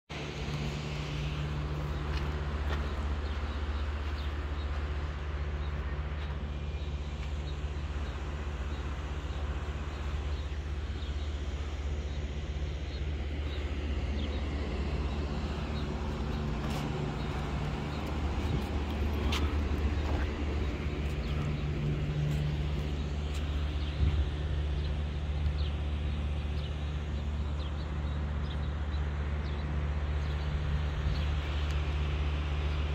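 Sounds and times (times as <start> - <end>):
steady low hum: 0.1 - 32.9.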